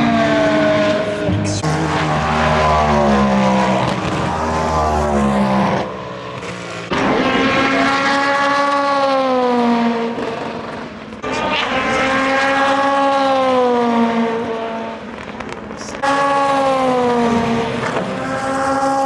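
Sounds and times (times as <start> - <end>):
racing cars passing at speed: 0.0 - 19.0.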